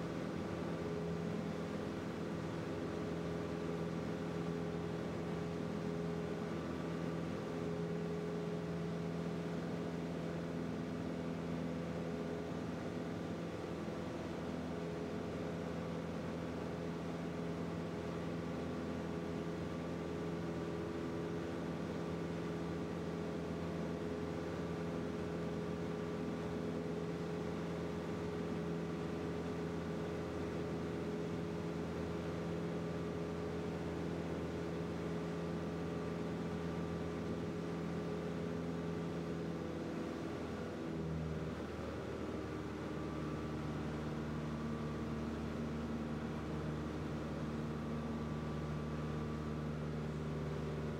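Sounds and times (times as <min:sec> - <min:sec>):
light aircraft engine droning: 0:00.0 - 0:50.9.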